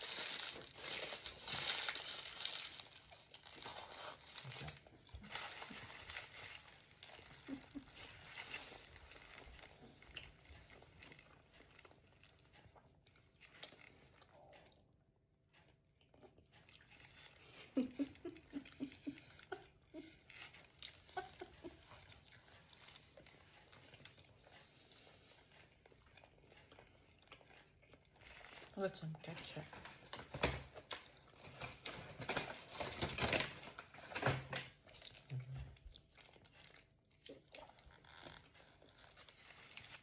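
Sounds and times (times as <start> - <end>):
chewing and crunching fried food: 0.0 - 40.0.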